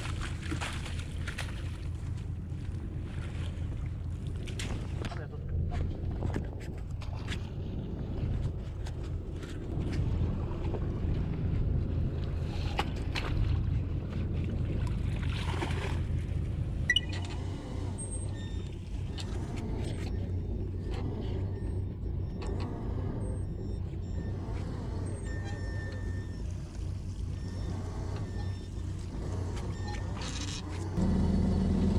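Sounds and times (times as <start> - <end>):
boat engine running: 0.0 - 31.9.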